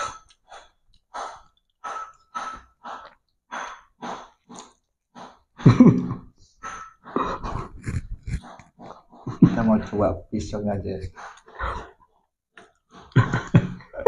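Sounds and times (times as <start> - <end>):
breathy eating mouth sounds: 0.0 - 5.6, 6.4 - 9.8, 10.9 - 13.9.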